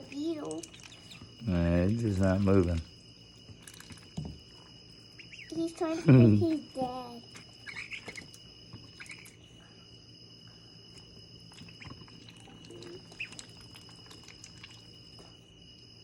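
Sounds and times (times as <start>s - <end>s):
high-pitched insect trilling: 0.0s - 16.0s
soft chirps: 0.0s - 16.0s.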